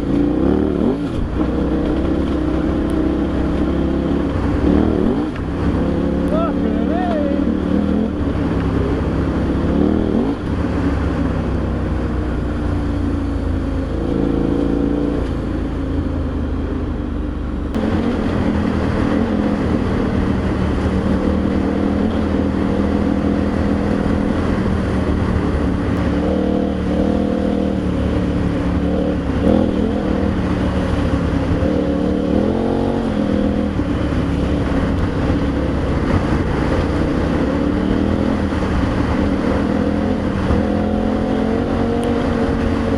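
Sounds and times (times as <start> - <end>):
motorcycle engine revving while riding: 0.0 - 42.9
steady rush of noise: 0.0 - 42.9.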